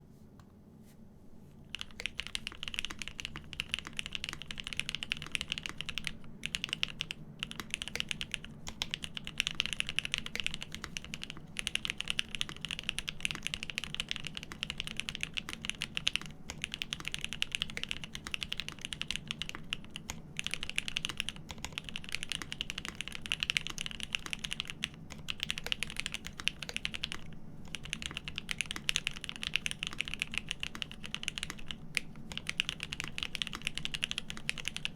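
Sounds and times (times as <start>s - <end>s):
mechanical keyboard typing: 1.7s - 34.9s.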